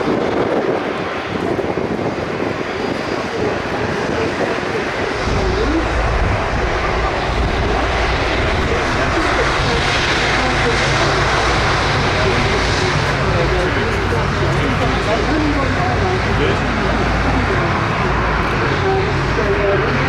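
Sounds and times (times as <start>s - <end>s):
airliner engines running: 0.0s - 20.0s
deep low rumble: 0.0s - 20.0s.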